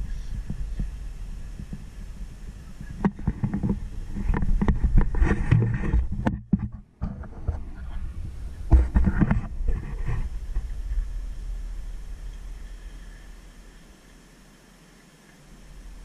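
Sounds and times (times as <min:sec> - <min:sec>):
vehicle engine low rumble: 0:00.0 - 0:14.6, 0:15.5 - 0:16.0.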